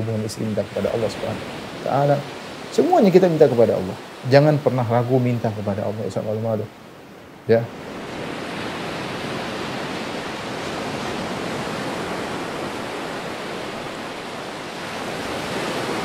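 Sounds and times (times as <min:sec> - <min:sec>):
ocean surf breaking on rocks: 0:00.0 - 0:16.0.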